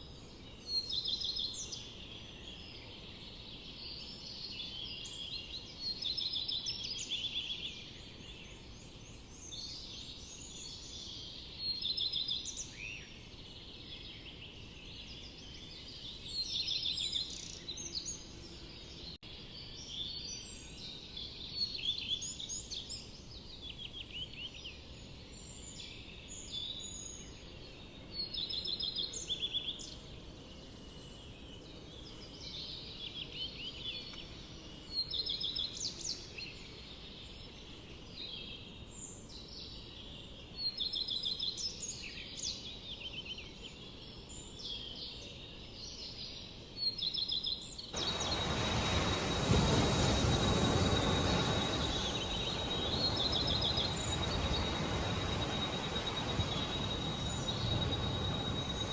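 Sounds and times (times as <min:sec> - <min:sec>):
faint background hiss: 0:00.0 - 0:58.9
songbirds chirping and trilling: 0:00.0 - 0:58.9.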